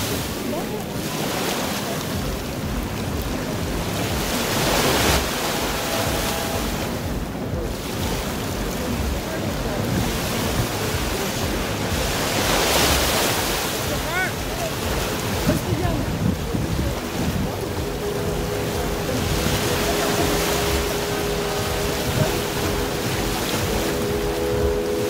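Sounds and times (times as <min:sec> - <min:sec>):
sea surf washing onto beach: 0:00.0 - 0:25.0
wind buffeting microphone: 0:00.0 - 0:25.0.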